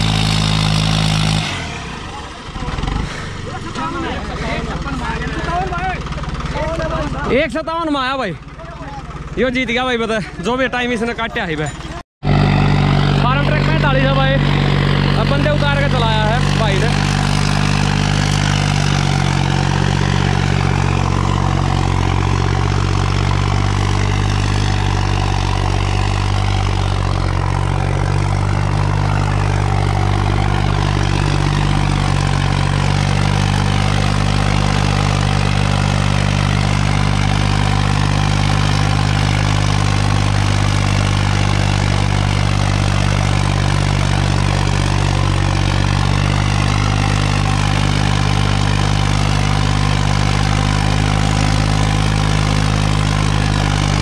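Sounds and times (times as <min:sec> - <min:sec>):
tractor diesel engine droning: 0:00.0 - 0:54.0.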